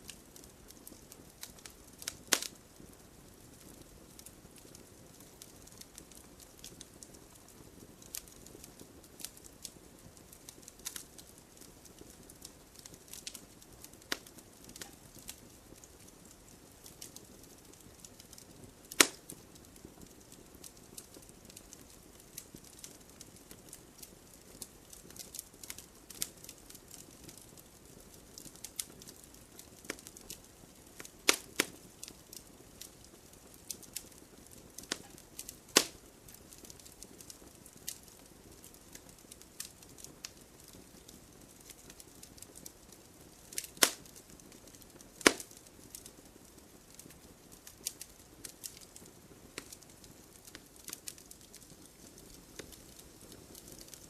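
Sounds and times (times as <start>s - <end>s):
campfire crackling: 0.0s - 54.0s
loud fire pops: 0.1s - 46.1s, 46.9s - 54.0s.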